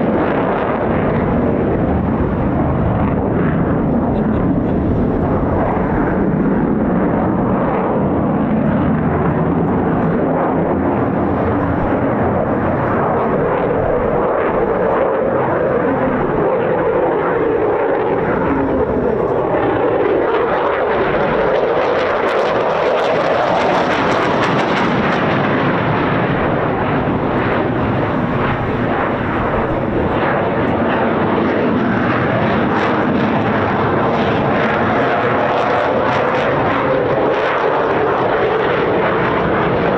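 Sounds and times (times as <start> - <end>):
fighter jet engine roar: 0.0 - 39.9.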